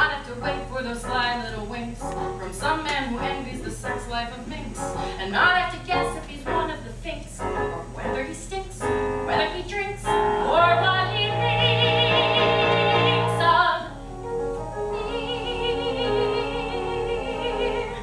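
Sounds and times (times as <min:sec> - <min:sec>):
woman singing operatically: 0:00.0 - 0:13.9, 0:14.9 - 0:18.0
piano accompaniment: 0:00.0 - 0:18.0.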